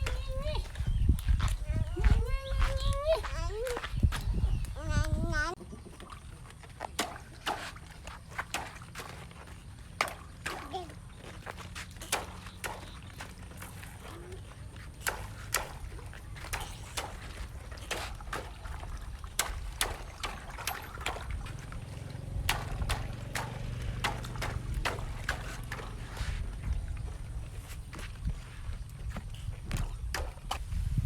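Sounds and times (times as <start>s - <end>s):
water dribbling: 0.0s - 31.0s
water splashing: 0.0s - 31.0s.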